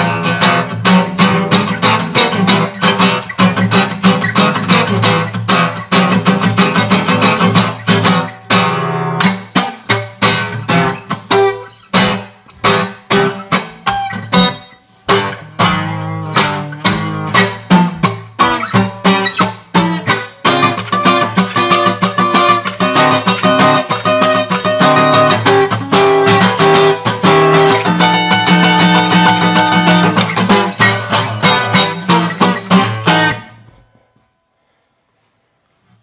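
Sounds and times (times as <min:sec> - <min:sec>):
acoustic guitar strumming: 0:00.0 - 0:34.8.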